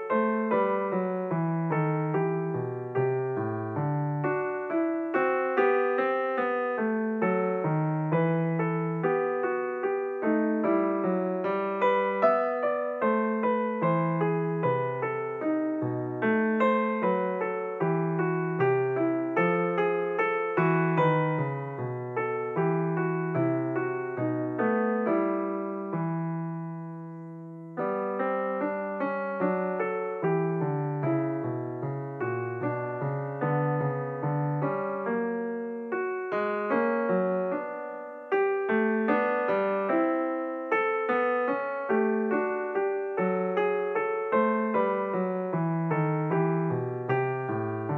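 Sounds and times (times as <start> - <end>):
piano music: 0.0 - 47.9.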